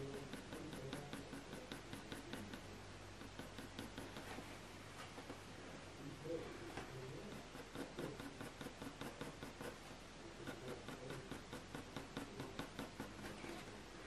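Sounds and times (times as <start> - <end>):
pencil scratching on paper: 0.0 - 4.5, 7.0 - 13.8.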